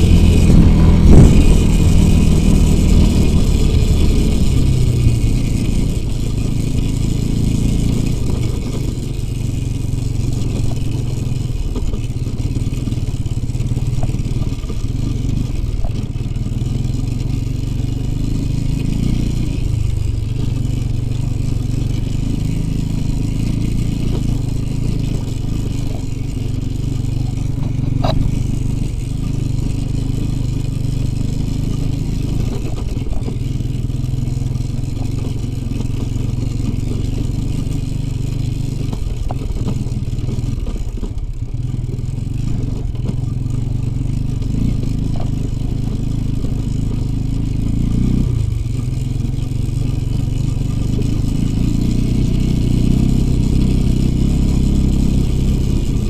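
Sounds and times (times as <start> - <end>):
two-stroke motorcycle engine running: 0.0 - 56.0.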